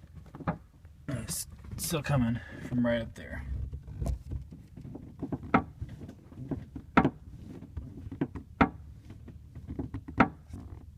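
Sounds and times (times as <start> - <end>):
interior trim creaking: 0.0 - 10.9.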